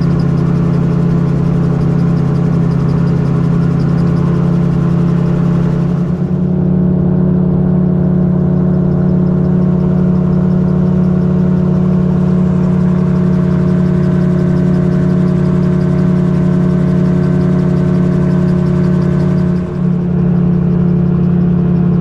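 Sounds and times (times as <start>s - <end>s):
gyrocopter engine droning: 0.0s - 22.0s.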